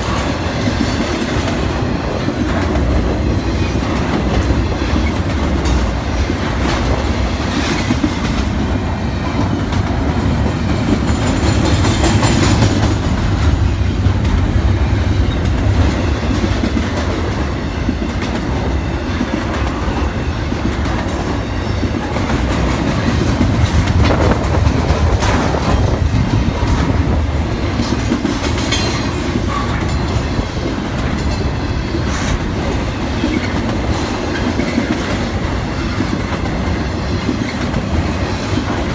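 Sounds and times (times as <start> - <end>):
clickety-clack of rail joints: 0.0 - 38.9
train wheels rumbling on rail: 0.0 - 38.9.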